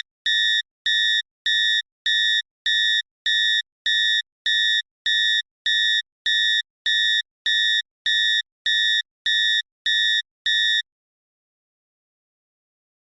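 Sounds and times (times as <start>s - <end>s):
cockpit warning alarm beeping: 0.3s - 10.8s.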